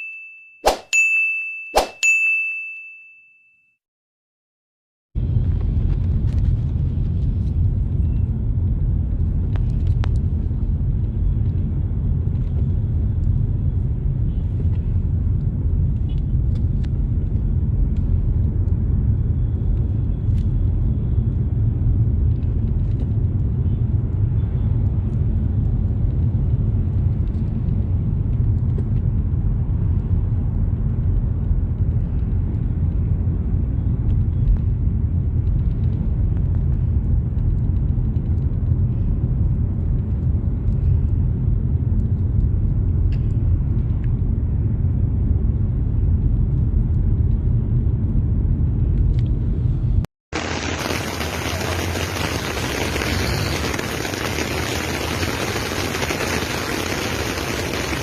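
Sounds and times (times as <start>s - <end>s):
low rumble: 5.2s - 58.0s.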